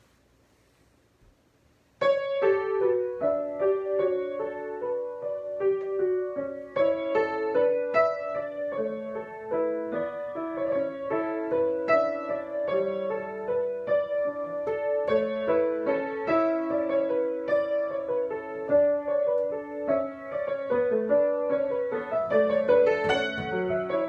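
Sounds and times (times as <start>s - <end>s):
solo piano: 1.8s - 24.0s.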